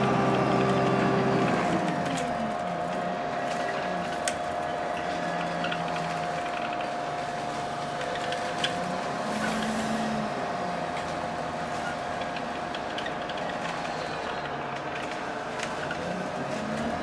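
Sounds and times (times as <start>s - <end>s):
bus drive whine: 0.0s - 17.0s
road noise: 0.0s - 17.0s.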